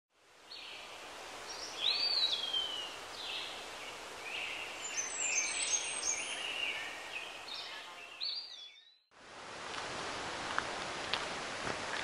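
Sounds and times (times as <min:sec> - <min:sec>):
woodland ambience: 0:00.2 - 0:12.0.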